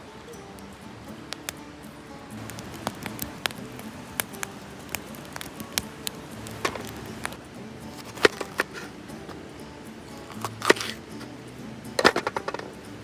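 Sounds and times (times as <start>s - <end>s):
wood campfire crackling: 0.0s - 13.0s.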